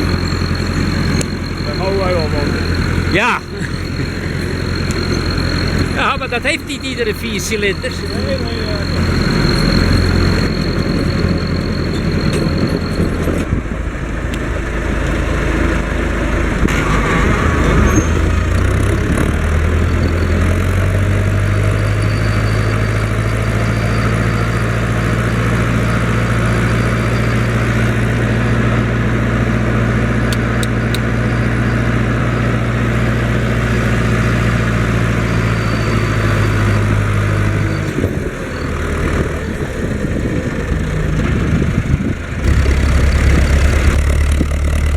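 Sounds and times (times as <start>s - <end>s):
tractor diesel engine: 0.0s - 44.9s.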